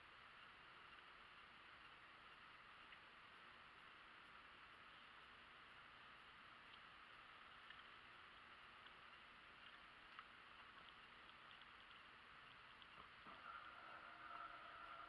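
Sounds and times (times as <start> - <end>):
tiny ticks: 0.0 - 13.6
faint background hiss: 0.0 - 15.0
faint steady hum: 0.0 - 15.0.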